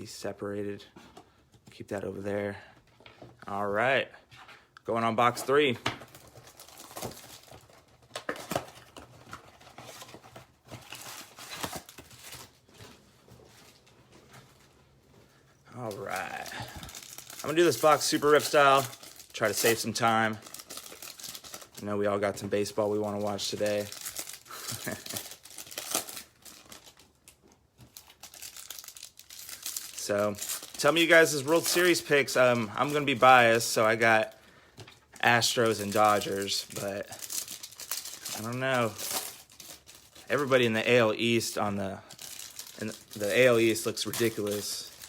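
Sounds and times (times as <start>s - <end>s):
wrappers crinkling and tearing: 5.2s - 13.0s, 15.7s - 45.0s.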